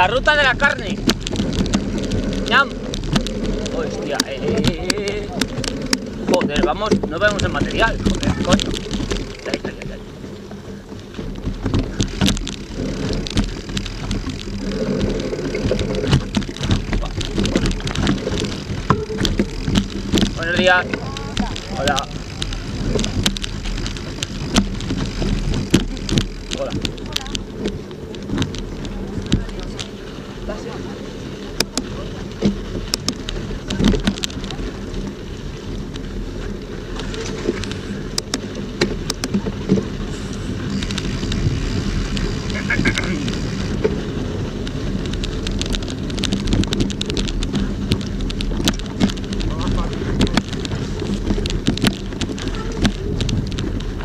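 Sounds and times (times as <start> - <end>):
bike jolting over stones: 0.0 - 54.0
tyre rumble: 0.0 - 54.0
wind noise on microphone: 0.0 - 54.0.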